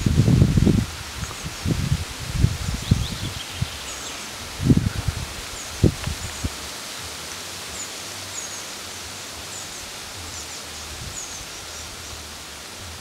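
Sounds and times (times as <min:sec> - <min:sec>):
wind rustling leaves: 0:00.0 - 0:13.0.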